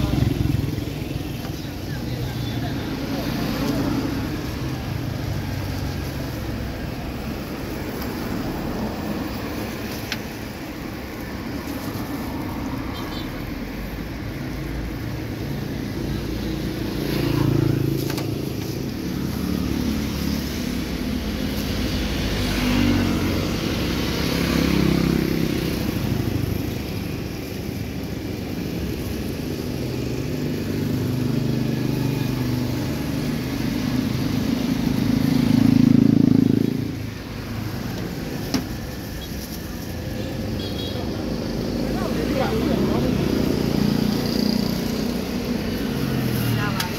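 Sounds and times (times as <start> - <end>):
vehicles driving past: 0.0 - 46.9.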